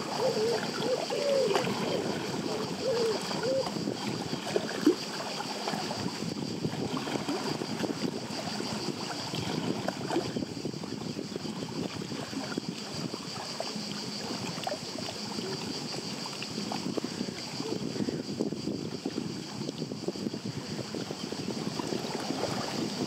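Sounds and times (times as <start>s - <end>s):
lake waves lapping on shore: 0.0s - 23.0s.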